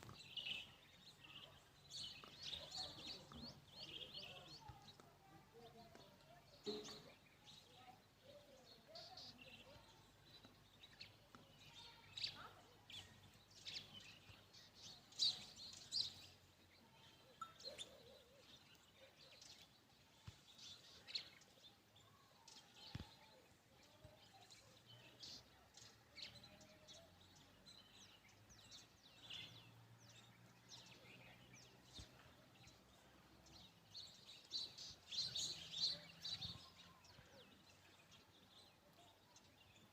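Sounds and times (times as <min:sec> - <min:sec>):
birds chirping faintly: 0:00.0 - 0:39.9.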